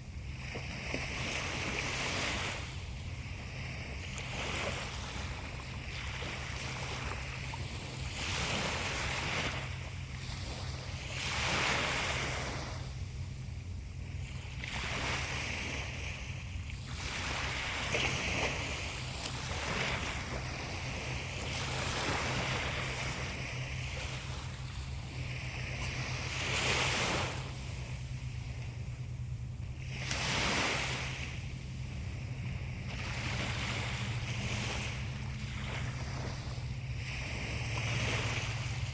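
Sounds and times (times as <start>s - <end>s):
sea waves washing on shore: 0.0s - 38.9s
steady low hum: 0.0s - 38.9s.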